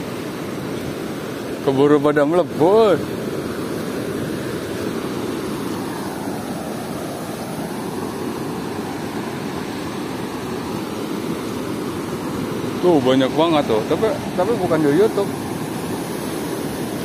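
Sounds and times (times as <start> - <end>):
waves breaking on sand: 0.0 - 17.0.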